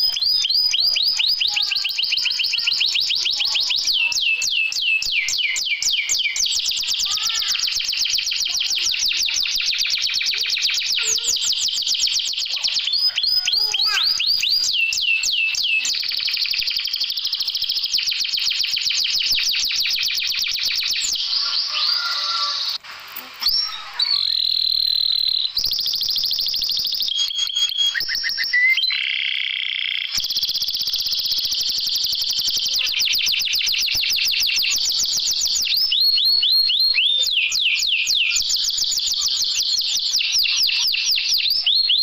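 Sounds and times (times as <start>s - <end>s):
songbird trilling: 0.0s - 22.8s, 23.4s - 42.0s.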